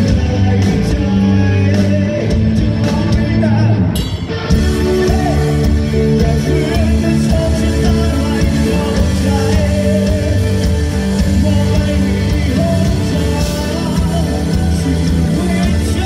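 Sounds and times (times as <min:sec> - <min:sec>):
rock band with singing: 0:00.0 - 0:16.0.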